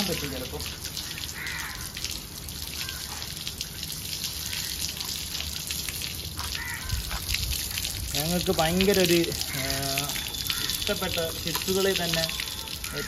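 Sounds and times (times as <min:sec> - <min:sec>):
hose water running: 0:00.0 - 0:13.0
water splashing and dripping: 0:00.0 - 0:13.0.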